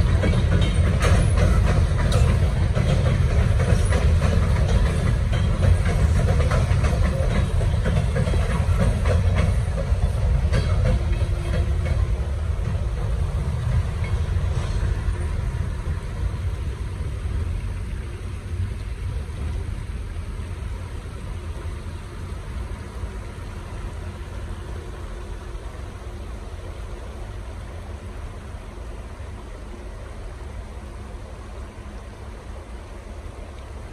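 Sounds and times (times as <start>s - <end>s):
diesel locomotives rumbling: 0.0s - 33.9s.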